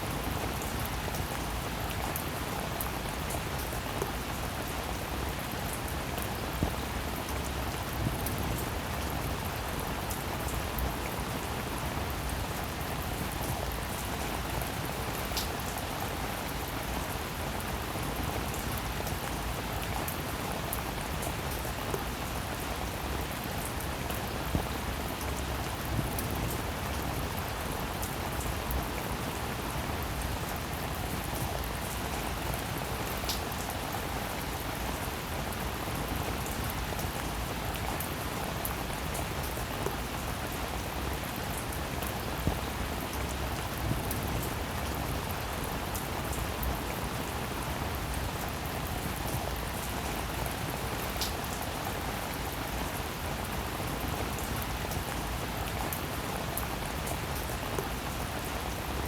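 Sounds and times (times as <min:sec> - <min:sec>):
heavy rain on hard surface: 0:00.0 - 0:59.0.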